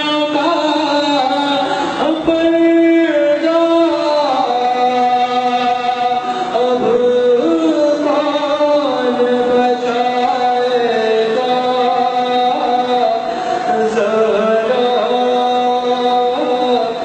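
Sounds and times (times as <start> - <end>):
man chanting devotional elegy: 0.0 - 17.0.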